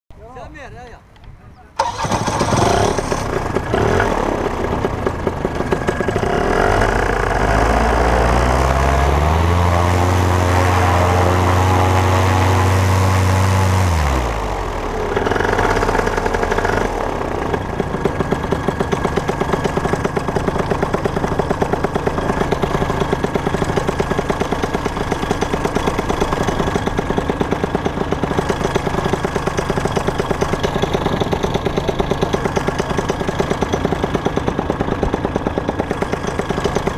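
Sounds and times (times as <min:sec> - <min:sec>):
paramotor engine running: 0:01.8 - 0:36.9.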